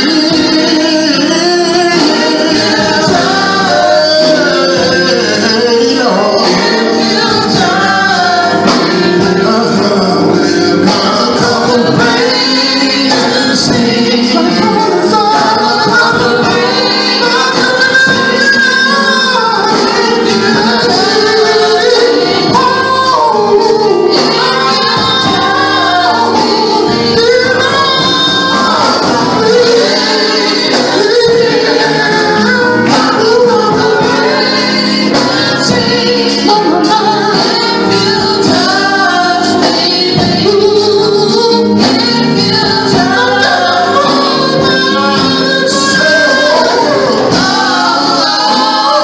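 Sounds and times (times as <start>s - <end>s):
band backing: 0.0s - 49.0s
group singing gospel: 0.0s - 49.0s.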